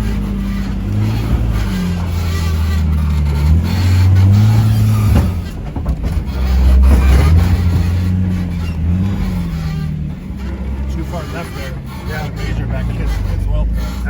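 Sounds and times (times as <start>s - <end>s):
knocks: 0.0s - 11.6s
off-road vehicle engine revving: 0.0s - 14.0s.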